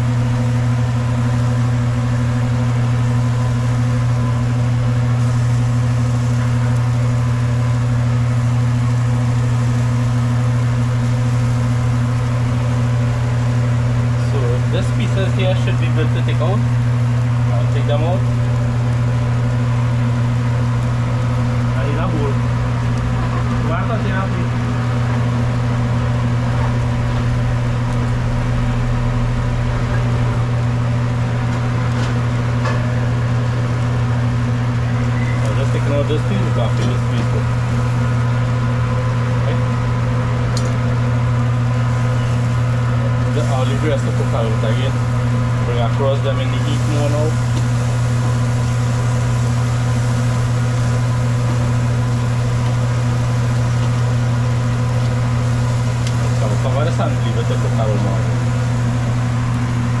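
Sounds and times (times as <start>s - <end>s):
low machine hum: 0.0s - 60.0s.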